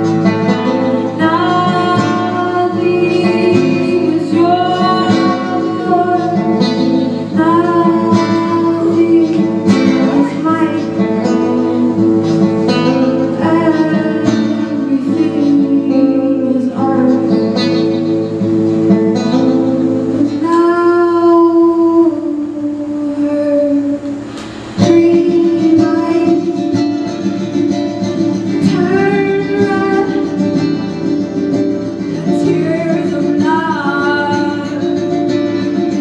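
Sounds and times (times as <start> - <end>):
person singing: 0.0 - 19.0, 20.1 - 36.0
strummed acoustic guitar: 0.0 - 36.0.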